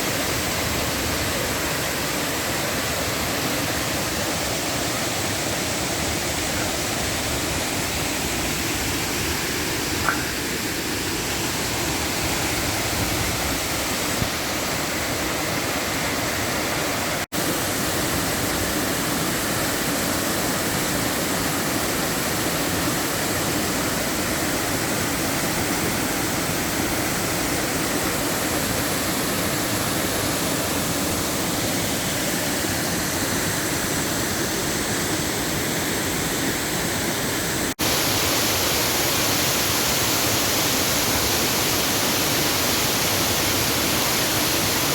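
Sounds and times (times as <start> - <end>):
running water rushing: 0.0 - 44.9.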